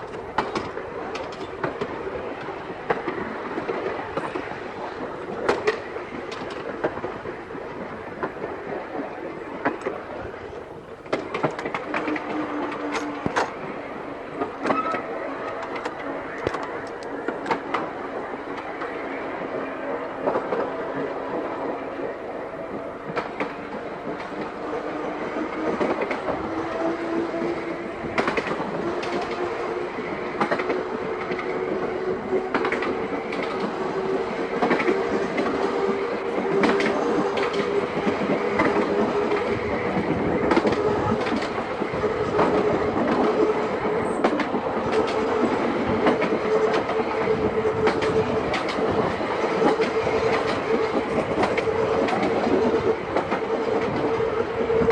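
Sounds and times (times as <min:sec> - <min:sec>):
wheels clicking over rail joints: 0:00.0 - 0:19.1, 0:22.7 - 0:54.9
electric tram whine: 0:00.0 - 0:54.9.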